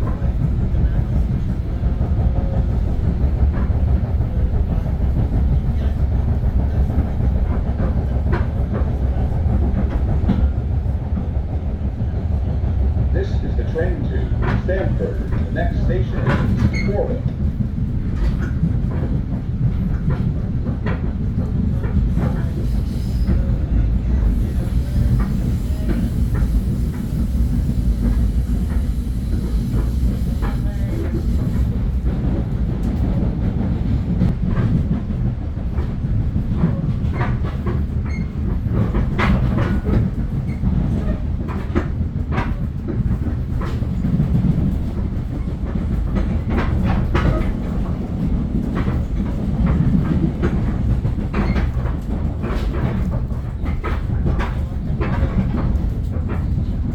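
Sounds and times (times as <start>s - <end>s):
rail clicks: 0.0s - 56.9s
train wheels rumbling on track: 0.0s - 56.9s.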